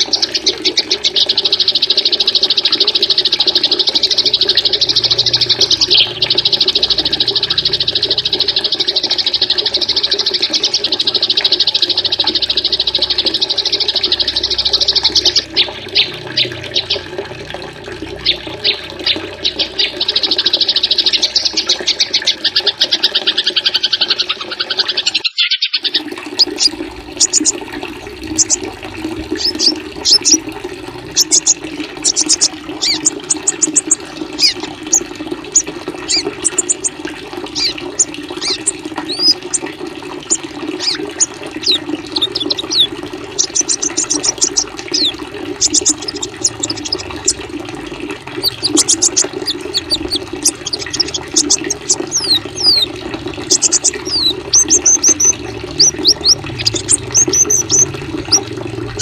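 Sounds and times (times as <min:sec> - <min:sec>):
songbird rapid trill: 0:00.0 - 0:17.1, 0:18.2 - 0:30.4, 0:31.1 - 0:47.5, 0:48.3 - 0:59.0.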